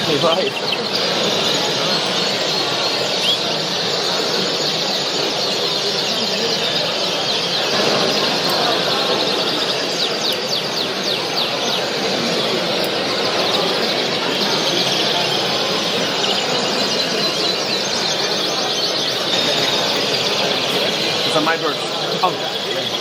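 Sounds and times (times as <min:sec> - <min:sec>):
canaries trilling and chirping: 0:00.0 - 0:23.0
low murmur of voices: 0:00.0 - 0:23.0.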